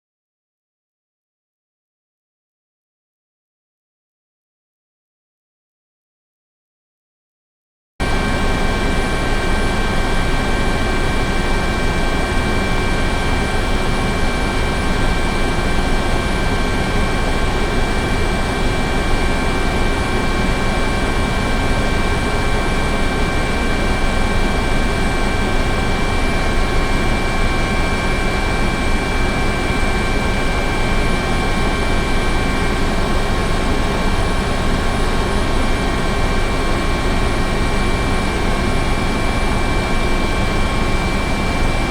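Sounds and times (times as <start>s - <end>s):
helicopter running: 8.0s - 41.9s.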